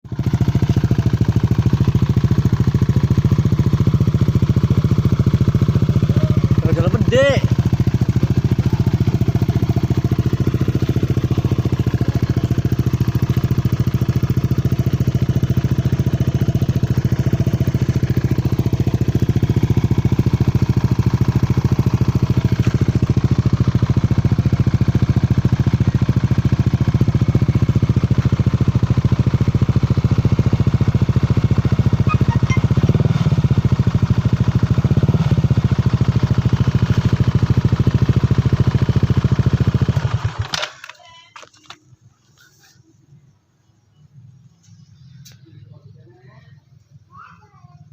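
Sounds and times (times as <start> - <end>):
scooter engine idling: 0.1 - 47.9.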